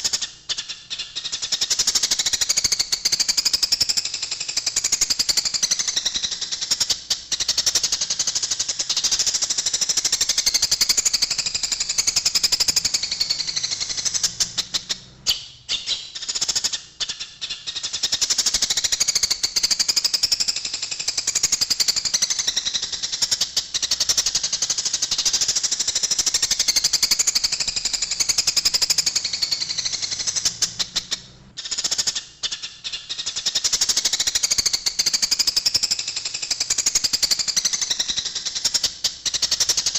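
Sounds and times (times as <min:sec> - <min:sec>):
sparrows chirping: 0:00.0 - 0:35.9.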